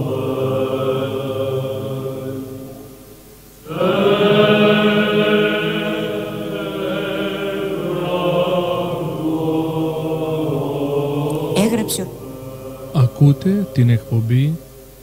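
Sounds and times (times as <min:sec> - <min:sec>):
church chant: 0:00.0 - 0:03.0, 0:03.6 - 0:15.0.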